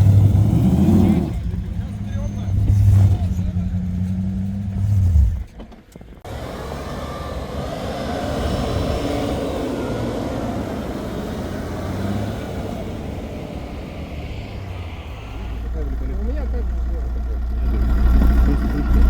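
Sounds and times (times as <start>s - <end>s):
off-road vehicle engine running: 0.0s - 19.0s
tyre and road noise: 0.0s - 19.0s.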